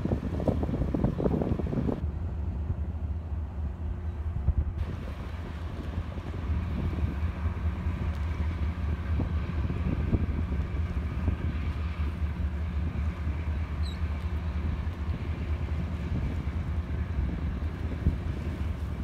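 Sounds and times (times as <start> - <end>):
wind on microphone: 0.0 - 2.0, 4.1 - 19.0
diesel engine drone: 0.0 - 19.0.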